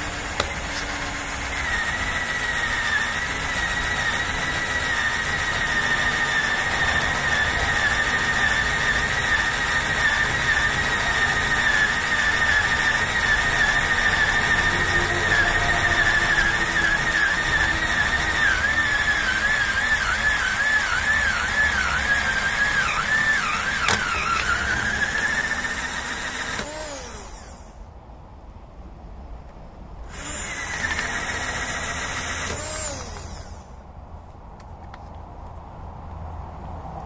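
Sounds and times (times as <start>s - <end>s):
power drill whining through rubber: 0.0s - 27.9s, 30.0s - 33.9s.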